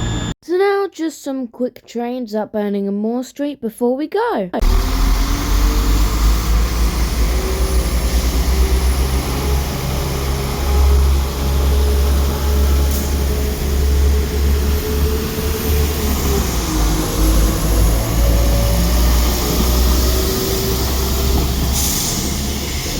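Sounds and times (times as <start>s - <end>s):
diesel train engine droning: 0.0s - 0.4s, 4.6s - 22.9s.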